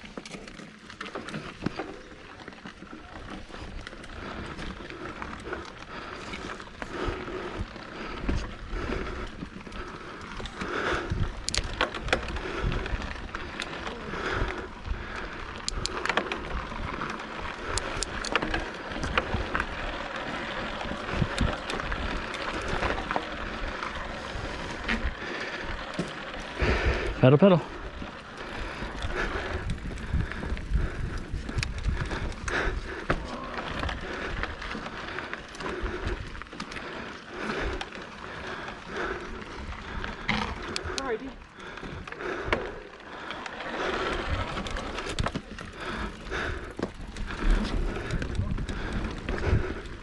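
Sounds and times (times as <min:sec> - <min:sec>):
bike rattling: 0:00.0 - 0:50.0
bike tyres rolling on trail: 0:00.0 - 0:50.0.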